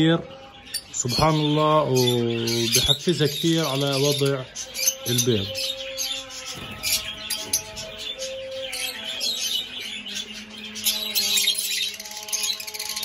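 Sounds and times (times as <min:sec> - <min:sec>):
lovebirds chirping and twittering: 0:00.0 - 0:13.0
soft background music: 0:00.0 - 0:13.0.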